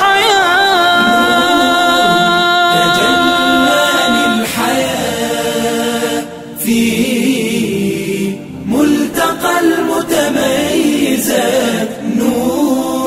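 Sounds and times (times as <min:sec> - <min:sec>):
voices singing a cappella: 0:00.0 - 0:13.0.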